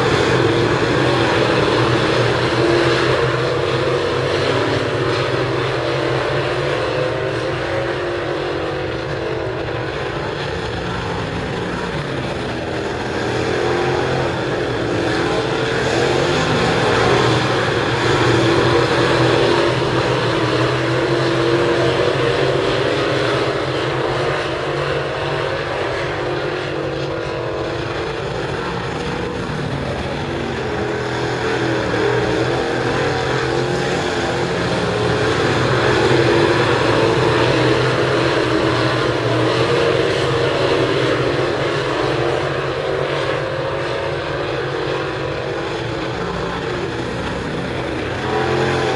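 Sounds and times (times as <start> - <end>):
race car engines: 0.0 - 48.9.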